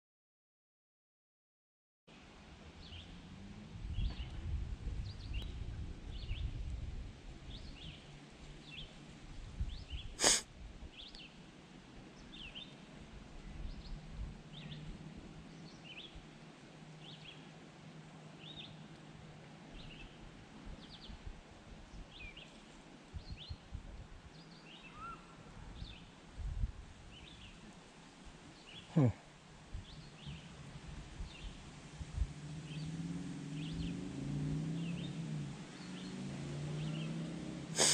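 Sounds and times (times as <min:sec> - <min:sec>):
outdoor background noise: 0:02.1 - 0:37.9.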